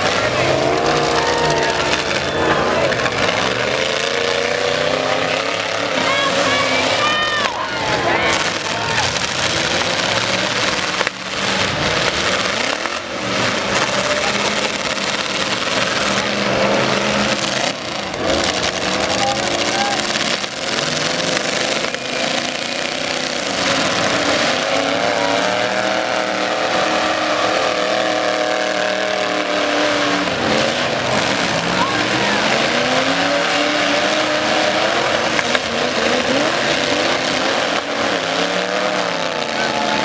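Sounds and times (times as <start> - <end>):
truck engines revving: 0.0 - 40.0.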